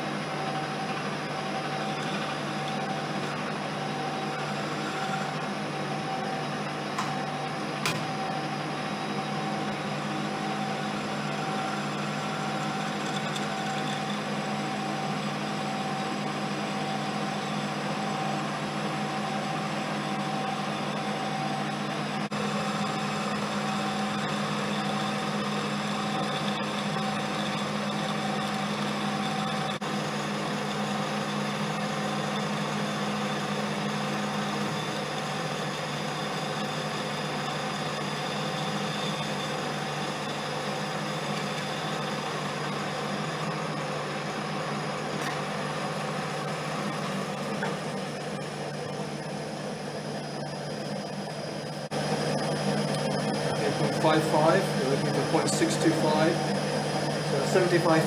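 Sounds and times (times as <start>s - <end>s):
lathe motor hum and whine: 0.0s - 58.0s.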